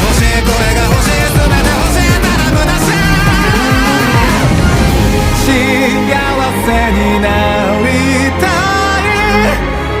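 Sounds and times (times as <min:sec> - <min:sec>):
pop song with singing: 0:00.0 - 0:10.0.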